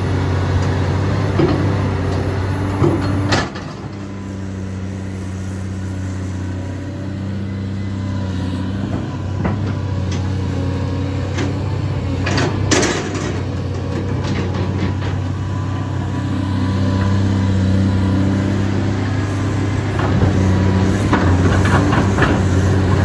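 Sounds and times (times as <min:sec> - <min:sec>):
diesel engine running under load: 0:00.0 - 0:23.0.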